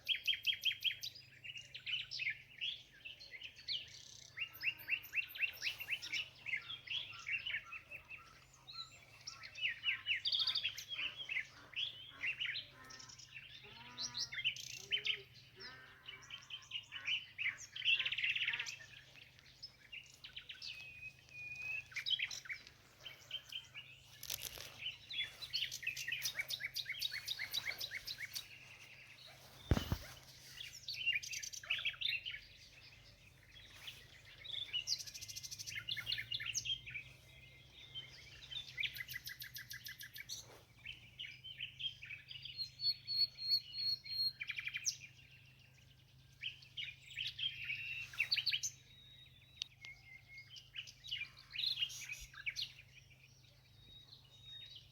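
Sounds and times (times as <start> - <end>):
songbirds singing and chirping: 0.0 - 54.9.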